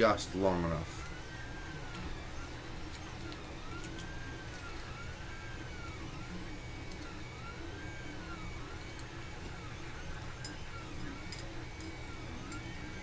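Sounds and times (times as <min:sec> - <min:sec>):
fan hum: 0:00.0 - 0:13.0
stepper motors whining: 0:00.0 - 0:13.0
faint clicks of small parts: 0:00.9 - 0:13.0.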